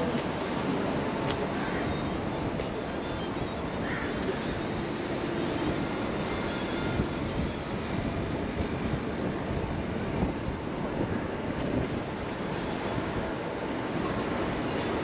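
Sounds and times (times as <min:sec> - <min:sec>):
outdoor street noise: 0:00.0 - 0:15.0.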